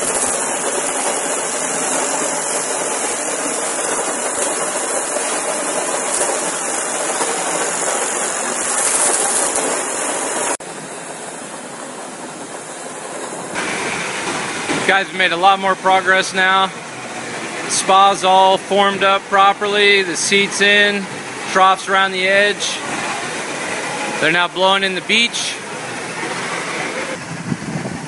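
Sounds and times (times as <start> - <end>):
concrete spraying rushing hiss: 0.0 - 27.2.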